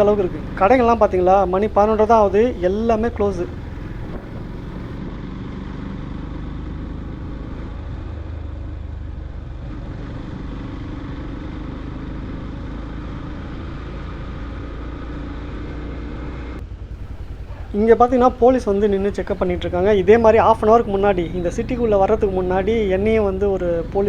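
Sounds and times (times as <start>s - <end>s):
motorcycle engine hum: 0.0s - 24.0s
wind and road noise: 0.0s - 24.0s.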